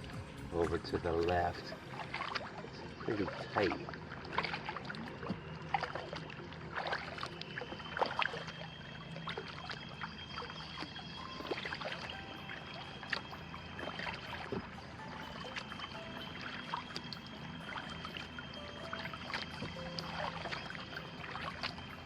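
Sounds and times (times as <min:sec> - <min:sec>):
paddle splashing in water: 0:00.0 - 0:22.0
thin high tone: 0:00.0 - 0:22.0
water dripping off paddle: 0:00.0 - 0:22.0.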